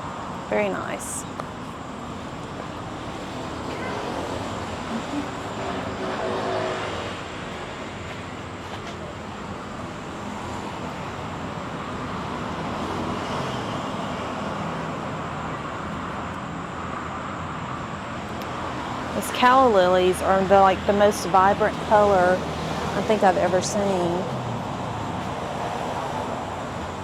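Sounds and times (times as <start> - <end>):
road traffic hum: 0.0 - 27.0.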